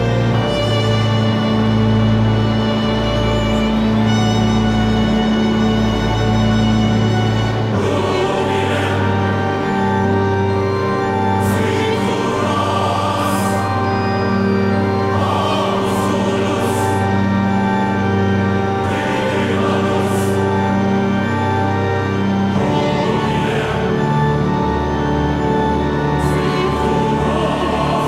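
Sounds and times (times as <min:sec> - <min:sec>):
choral voices: 0:00.0 - 0:28.0.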